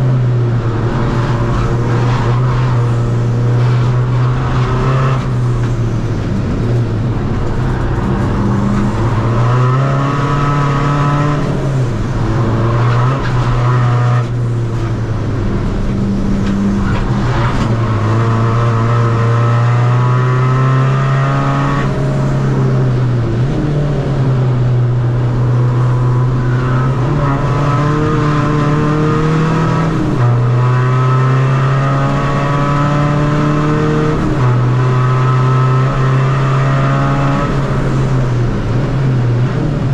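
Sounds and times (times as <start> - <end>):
diesel engine at high load: 0.0 - 39.9.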